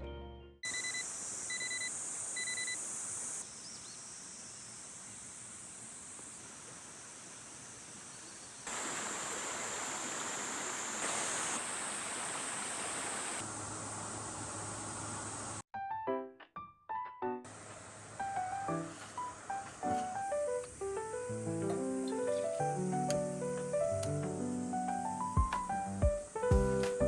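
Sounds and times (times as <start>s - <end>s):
insects droning: 0.6s - 15.6s, 17.5s - 27.0s.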